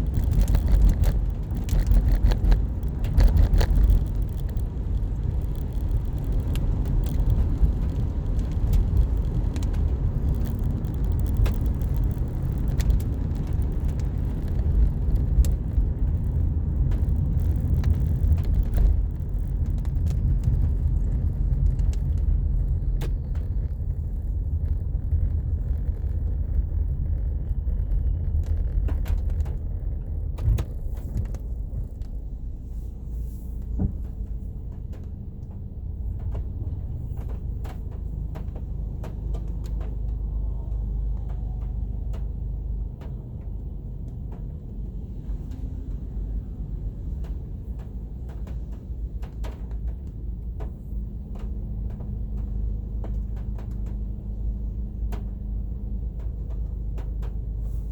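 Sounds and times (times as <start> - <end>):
light clicks and taps: 0.0 - 32.3, 33.3 - 57.9
road and engine rumble: 0.0 - 57.9.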